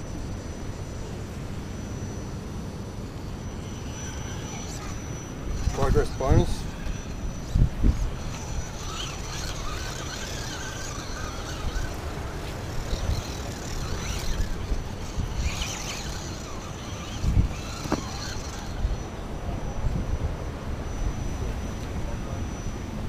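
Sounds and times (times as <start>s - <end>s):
electric motor and gears whining: 0.0s - 23.0s
wind buffeting microphone: 3.6s - 23.0s.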